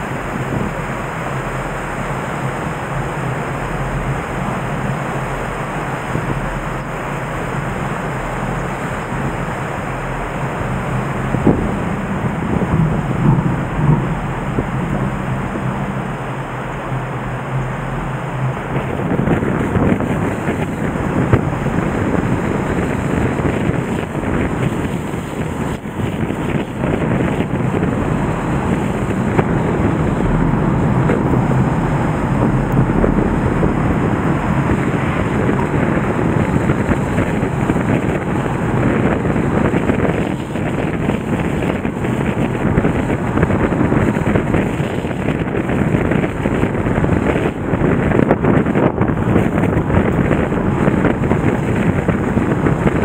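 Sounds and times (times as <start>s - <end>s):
flooded river rushing: 0.0s - 53.0s.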